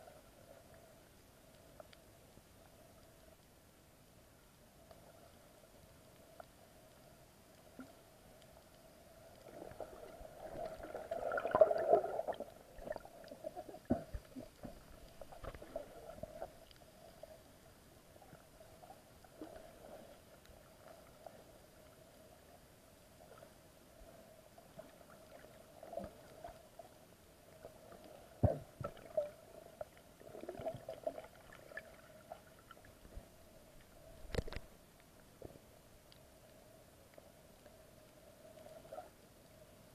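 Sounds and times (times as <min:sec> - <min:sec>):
faint steady hum: 0:00.0 - 0:39.9
water swishing and gurgling: 0:00.0 - 0:39.9.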